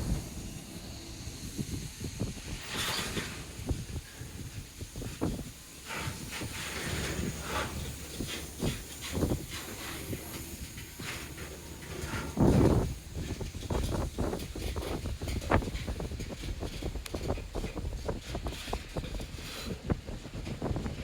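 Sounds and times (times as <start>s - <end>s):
clanks and knocks from train cars: 0.0s - 21.0s
train rolling on rails: 0.0s - 21.0s.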